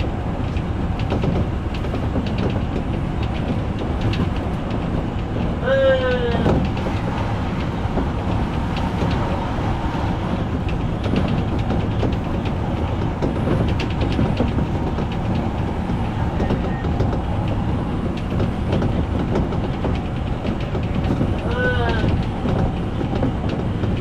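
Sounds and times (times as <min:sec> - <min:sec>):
train running rumble: 0:00.0 - 0:24.0
wheels clicking over rail joints: 0:00.0 - 0:24.0.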